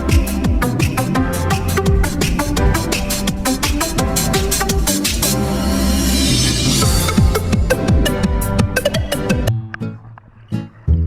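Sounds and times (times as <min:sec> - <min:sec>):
electronic music with drum beat: 0:00.0 - 0:09.5.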